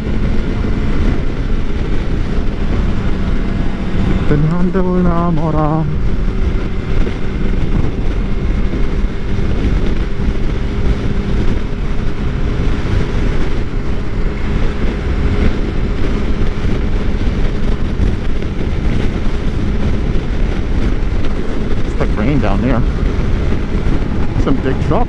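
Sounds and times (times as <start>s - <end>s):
motorcycle engine running: 0.0s - 25.0s
wind rushing over microphone: 0.0s - 25.0s.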